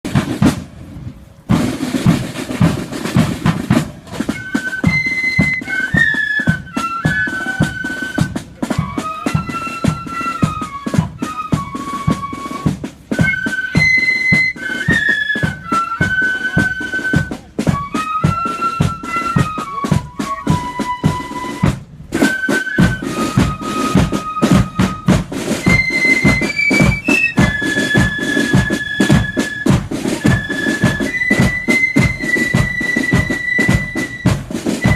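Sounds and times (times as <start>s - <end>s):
snare and bass drums: 0.0s - 34.9s
flute melody: 1.5s - 34.9s.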